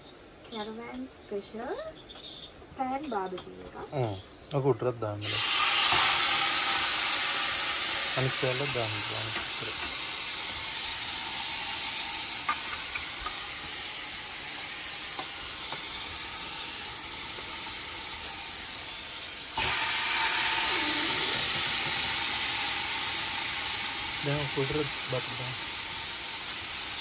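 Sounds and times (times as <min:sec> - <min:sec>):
meat sizzling in oil: 0:05.2 - 0:27.0.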